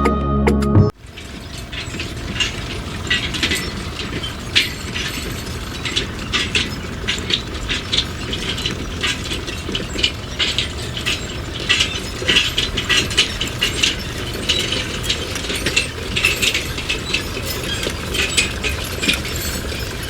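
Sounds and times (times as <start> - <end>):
mechanical clicking and rattling: 1.0 - 20.0.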